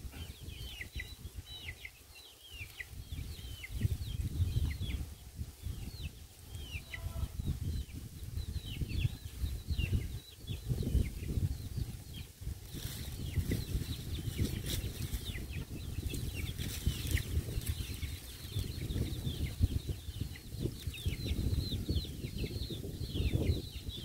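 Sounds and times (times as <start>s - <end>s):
birds chirping: 0.0s - 24.0s
wind on microphone: 0.0s - 24.0s.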